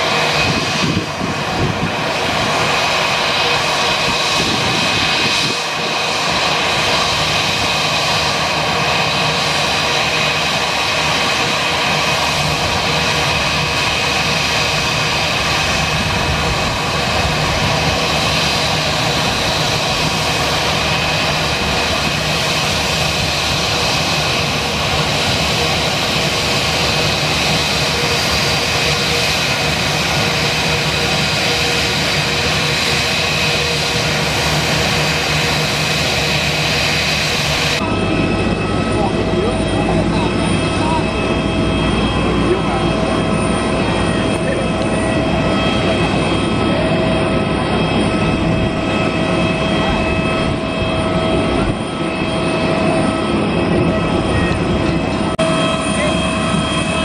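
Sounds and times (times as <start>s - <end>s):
high steady whine: 0.0s - 57.0s
jet engines running: 0.0s - 57.0s.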